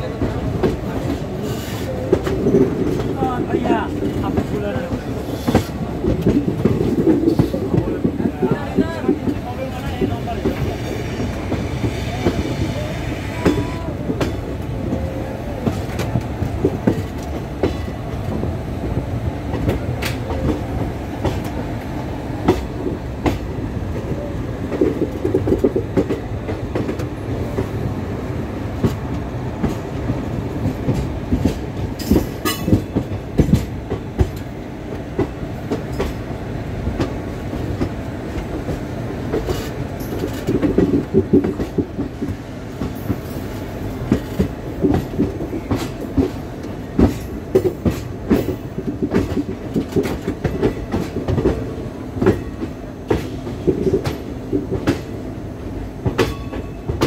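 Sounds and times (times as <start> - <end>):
clickety-clack of train wheels: 0.0 - 57.0
train wheels rumbling on rails: 0.0 - 57.0.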